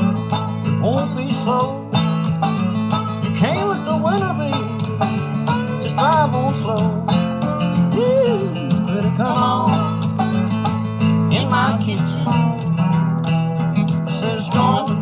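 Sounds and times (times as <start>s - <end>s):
acoustic blues band: 0.0s - 15.0s.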